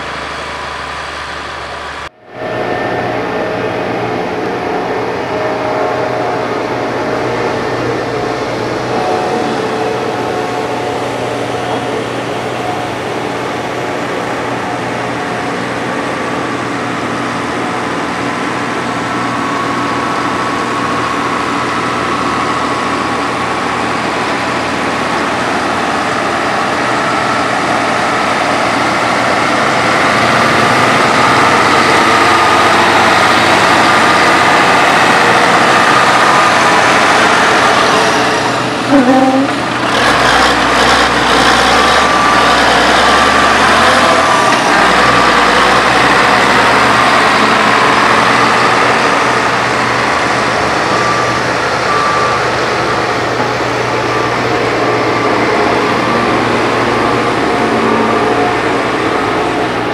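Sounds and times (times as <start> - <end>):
heavy diesel engine whining: 0.0 - 59.9.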